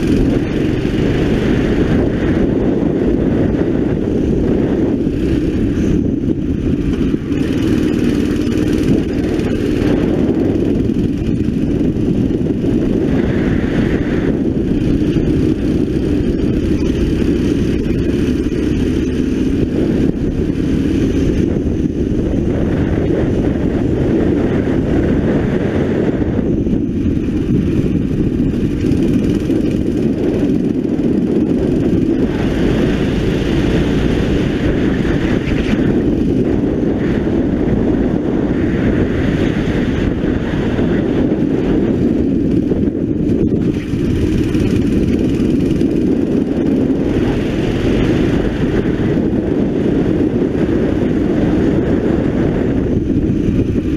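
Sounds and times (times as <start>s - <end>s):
racing kart engine: 0.0s - 53.9s
wind noise on microphone: 0.0s - 53.9s.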